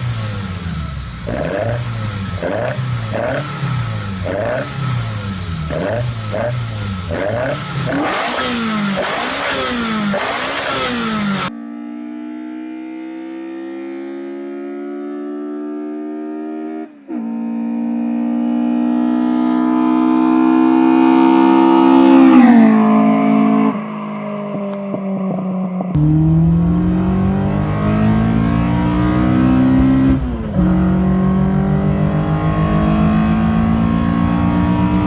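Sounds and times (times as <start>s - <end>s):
engine revving: 0.0s - 11.5s, 12.6s - 23.9s, 25.9s - 35.0s
engine accelerating: 0.0s - 16.8s, 17.6s - 25.0s, 25.9s - 35.0s.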